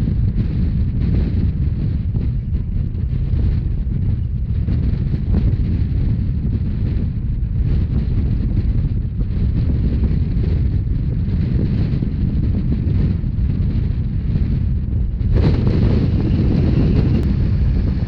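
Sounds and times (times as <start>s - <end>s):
train rumbling at speed: 0.0s - 18.0s
wind buffeting microphone: 0.0s - 18.0s.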